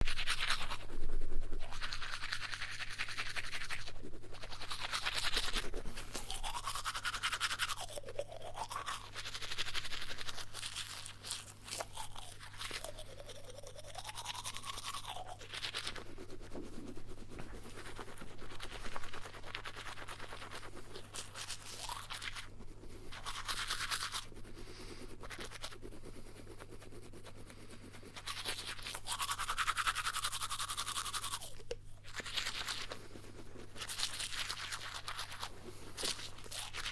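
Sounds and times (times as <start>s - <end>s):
toothbrush scrubbing teeth: 0.0s - 36.9s.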